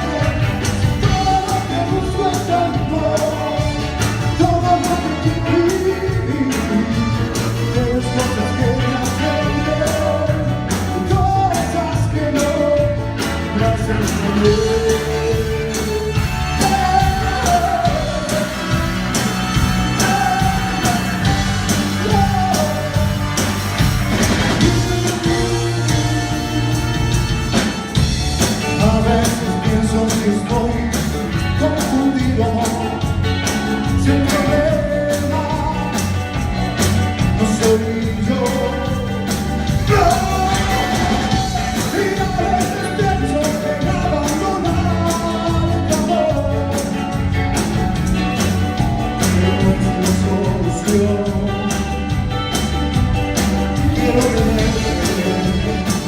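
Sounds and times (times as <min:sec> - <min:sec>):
cumbia band playing live: 0:00.0 - 0:56.0.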